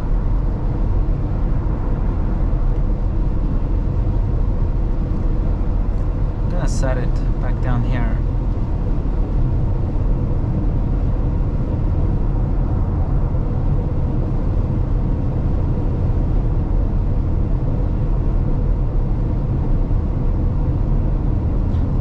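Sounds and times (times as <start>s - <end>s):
road and tyre rumble in car: 0.0s - 22.0s.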